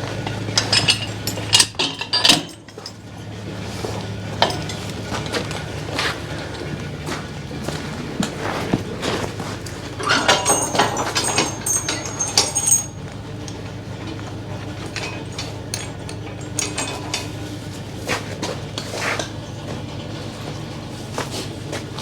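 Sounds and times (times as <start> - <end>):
metal rattling and clinking: 0.0 - 21.6
steady low hum: 0.0 - 22.0.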